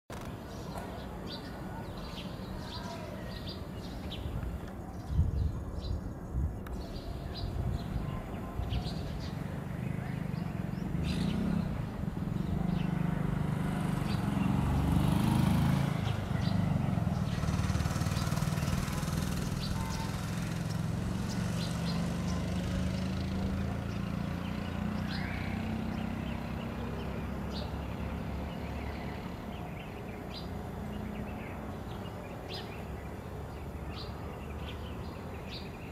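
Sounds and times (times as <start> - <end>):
small birds chirping: 0.1 - 35.9.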